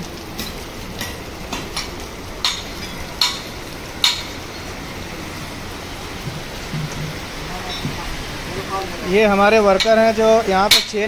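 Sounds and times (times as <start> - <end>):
rain on wet concrete: 0.0 - 11.0.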